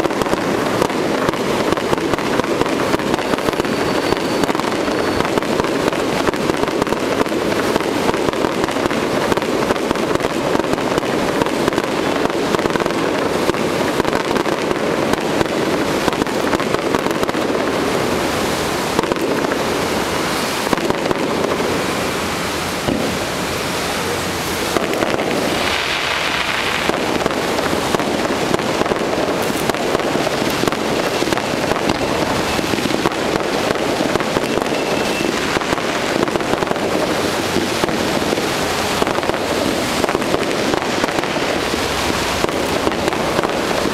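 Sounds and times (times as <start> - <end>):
fireworks bangs and pops: 0.0 - 43.9.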